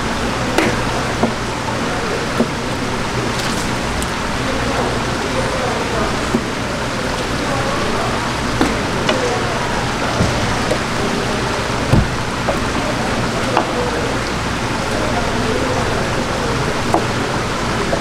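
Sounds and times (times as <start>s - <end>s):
faint background chatter: 0.0s - 18.0s
running water splashing: 0.0s - 18.0s.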